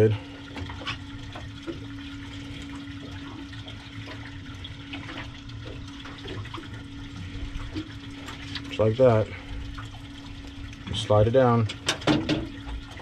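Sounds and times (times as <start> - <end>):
constant low hum: 0.0 - 13.0
water sloshing against boat hull: 0.0 - 13.0.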